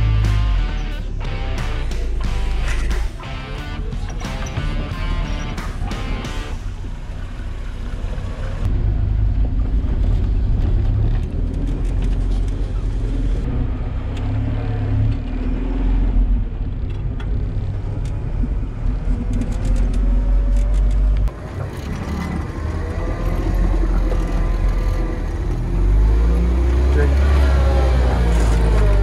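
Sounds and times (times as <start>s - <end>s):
low engine rumble: 0.0s - 29.0s.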